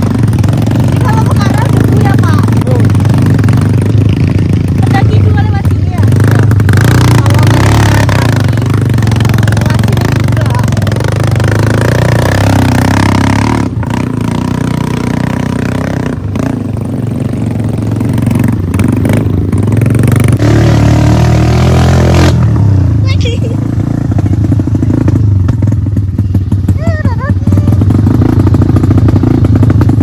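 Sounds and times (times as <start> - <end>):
motorcycle engine under load: 0.0 - 30.0.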